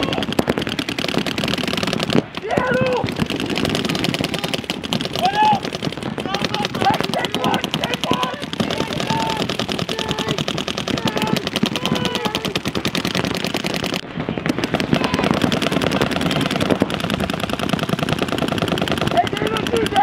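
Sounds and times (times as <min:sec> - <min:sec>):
paintball markers firing: 0:00.0 - 0:20.0.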